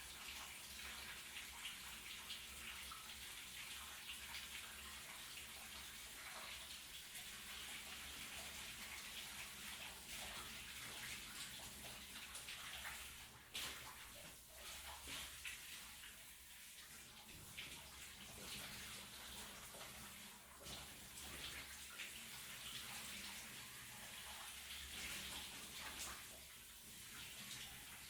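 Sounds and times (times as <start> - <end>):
water splashes: 0.1 - 28.0.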